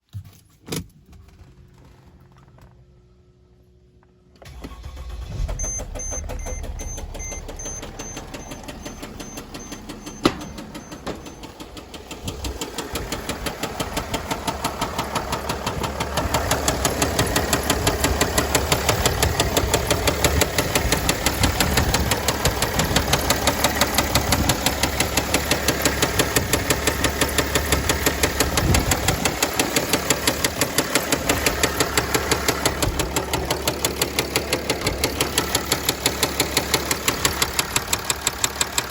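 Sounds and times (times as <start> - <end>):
diesel engine running: 4.4 - 38.9
heavy regular engine knock: 6.1 - 38.9.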